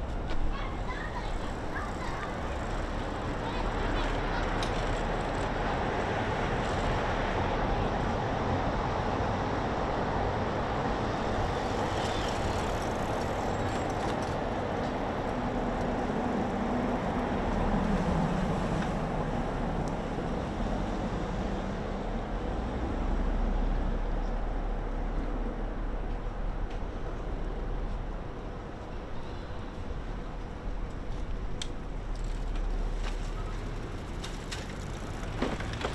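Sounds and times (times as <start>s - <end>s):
city road traffic: 0.0s - 35.9s.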